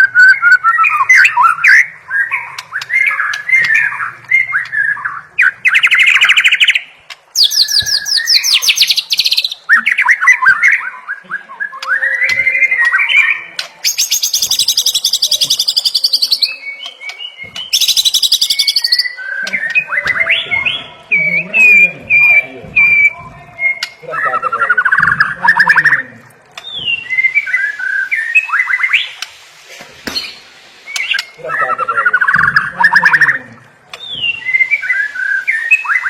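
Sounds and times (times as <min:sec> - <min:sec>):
bird singing whistled phrases: 0:00.0 - 0:06.8, 0:07.4 - 0:26.0, 0:26.6 - 0:29.2, 0:30.2 - 0:36.0.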